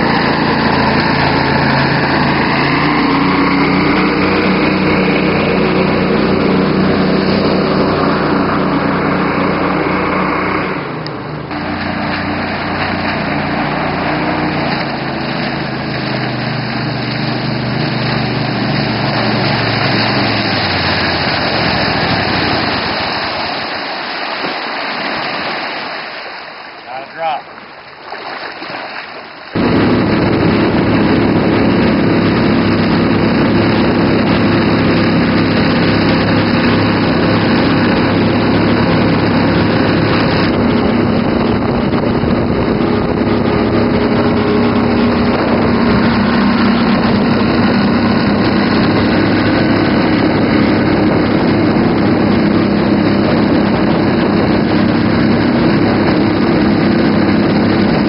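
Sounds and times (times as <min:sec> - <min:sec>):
boat motor running: 0:00.0 - 0:58.0.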